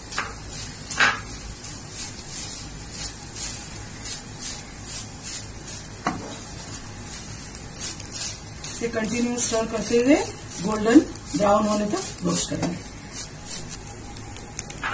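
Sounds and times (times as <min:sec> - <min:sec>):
spoon swishing and scraping: 0:00.0 - 0:14.7
soft sizzle: 0:00.0 - 0:14.9.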